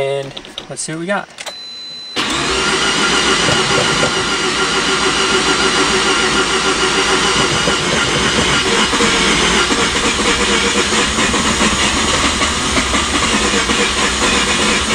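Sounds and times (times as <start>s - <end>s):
rotary engine running: 2.2s - 14.9s.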